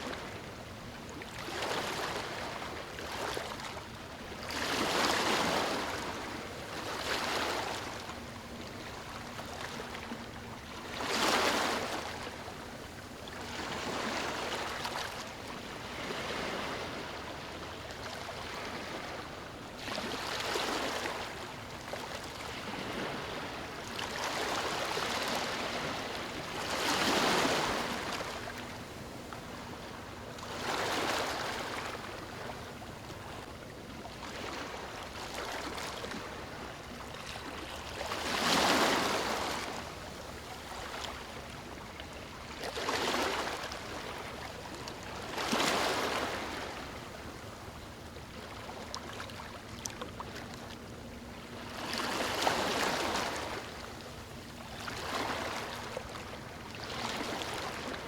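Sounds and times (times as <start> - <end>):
waves breaking: 0.0 - 58.0.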